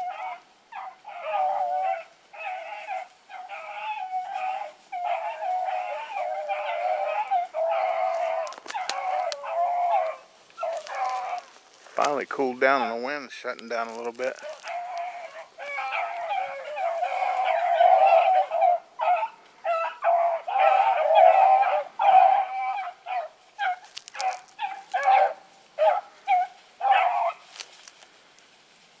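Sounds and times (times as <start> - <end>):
dogs baying and barking: 0.0 - 27.7.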